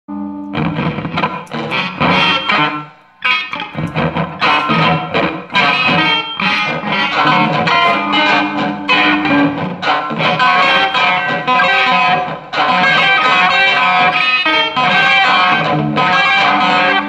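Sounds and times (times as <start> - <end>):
electric guitar improvisation: 0.1 - 17.0.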